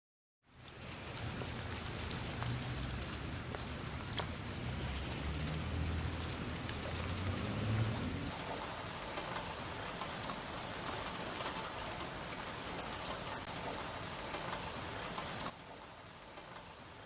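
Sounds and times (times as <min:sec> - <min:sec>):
steady rain falling: 0:00.5 - 0:17.0.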